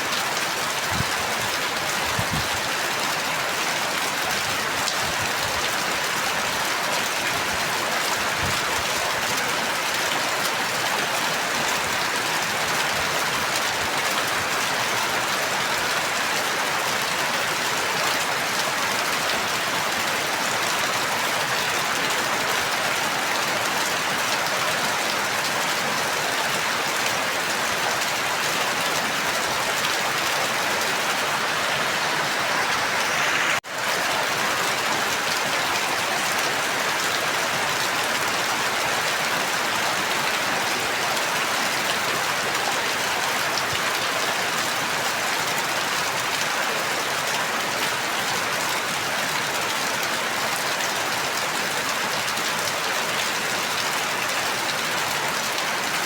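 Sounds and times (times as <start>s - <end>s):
dense rain falling: 0.0s - 56.0s.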